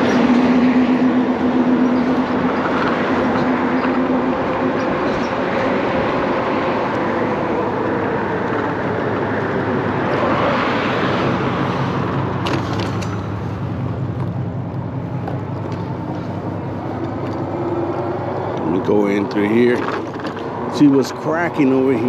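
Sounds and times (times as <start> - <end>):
e-bike riding noise: 0.0 - 22.0.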